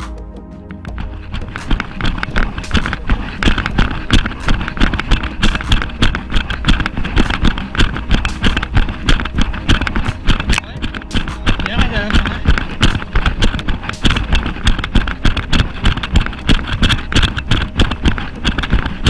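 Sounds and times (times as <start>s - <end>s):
low rumble: 0.0s - 19.0s
running footsteps on dirt: 0.8s - 19.0s.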